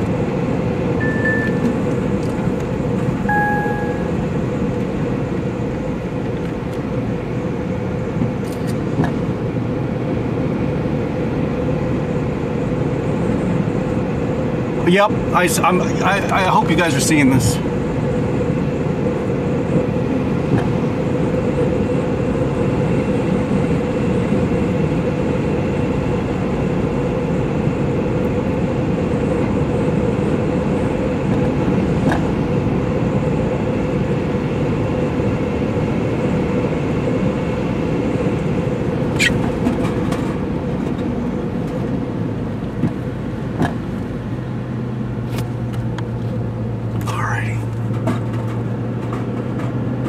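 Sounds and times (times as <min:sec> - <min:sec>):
road and engine noise inside car: 0:00.0 - 0:50.0.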